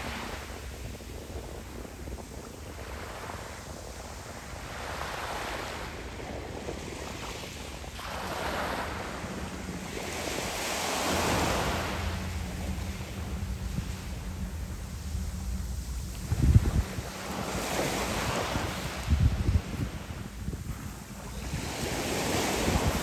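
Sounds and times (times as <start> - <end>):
sea waves on pebble beach: 2.8 - 23.0.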